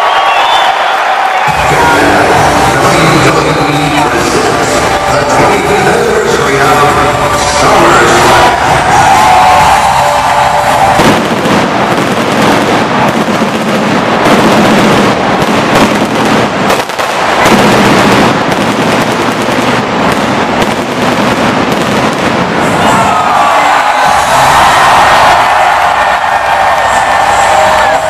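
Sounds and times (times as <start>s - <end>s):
pyrotechnics crackling: 1.5s - 28.0s.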